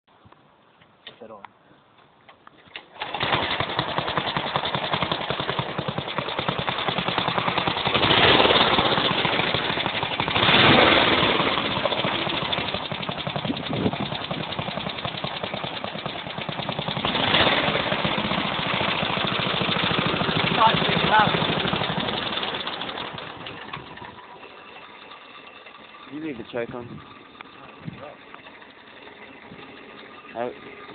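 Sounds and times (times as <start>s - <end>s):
go-kart engine revving: 2.9s - 30.9s.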